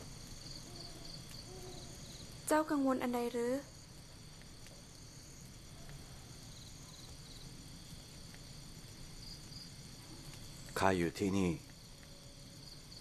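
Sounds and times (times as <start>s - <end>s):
crickets and insects chirping: 0.0s - 13.0s.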